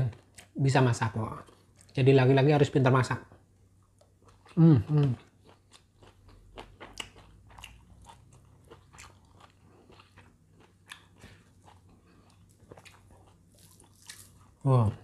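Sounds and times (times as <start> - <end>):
chewing food with crunches: 0.0 - 2.4, 3.6 - 15.0.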